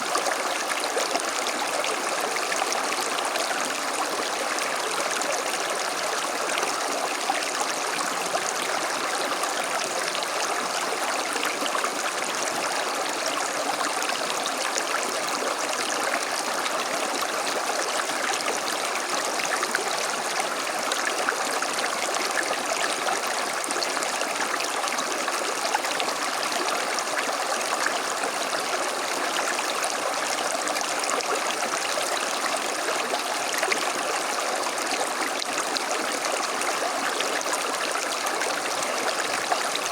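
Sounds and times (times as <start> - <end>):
creek water over stones: 0.0 - 39.9.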